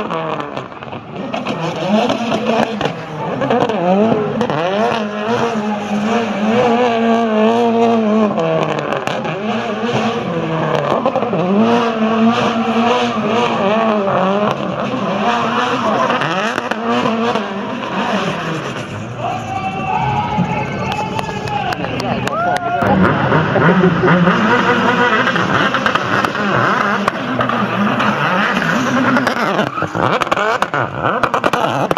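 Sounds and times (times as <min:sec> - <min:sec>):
rally car engine revving: 0:00.0 - 0:31.9.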